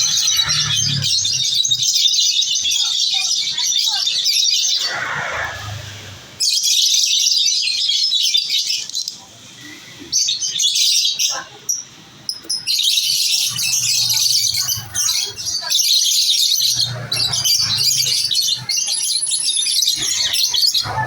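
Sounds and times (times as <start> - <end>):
lovebirds chirping: 0.0 - 21.0.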